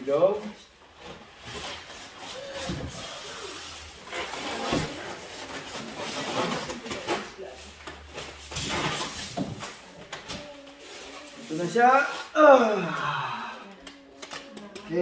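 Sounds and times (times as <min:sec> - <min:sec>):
cardboard and foam packaging rustling: 0:00.3 - 0:12.4.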